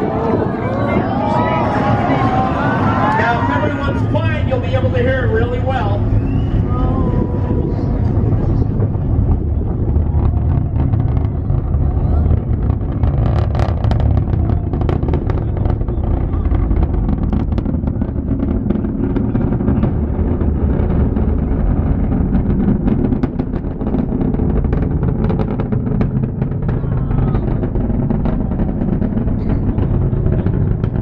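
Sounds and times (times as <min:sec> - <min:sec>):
rocket engines rumbling and crackling: 0:00.0 - 0:31.0.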